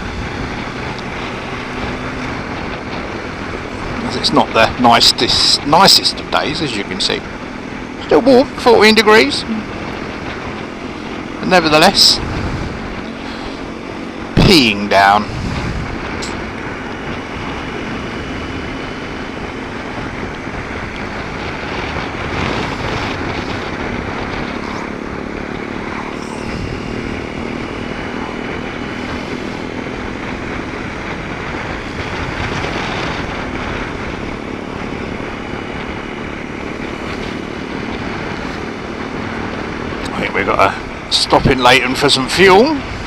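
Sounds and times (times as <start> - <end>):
motorcycle engine running: 0.0 - 43.0
wet road noise: 0.0 - 43.0
wind noise: 0.0 - 43.0.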